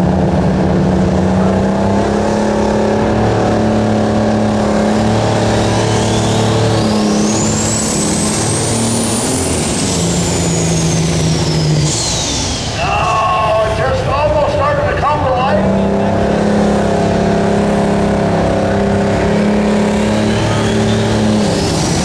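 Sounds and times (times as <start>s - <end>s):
diesel engine running loud: 0.0s - 22.0s
high turbo whine: 0.0s - 22.0s.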